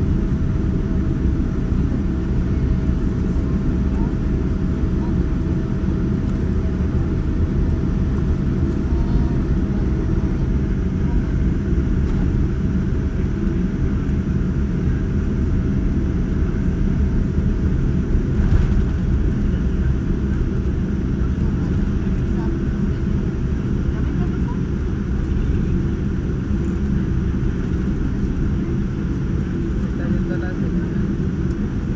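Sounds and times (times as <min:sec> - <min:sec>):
airplane cabin rumble: 0:00.0 - 0:31.9.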